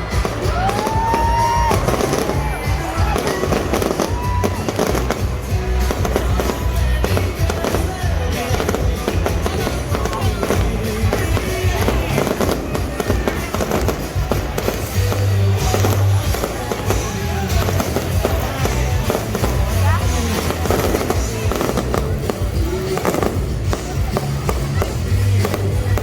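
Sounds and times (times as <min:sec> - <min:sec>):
fireworks bangs and crackles: 0:00.0 - 0:26.0
loud music with heavy bass beat: 0:00.0 - 0:26.0.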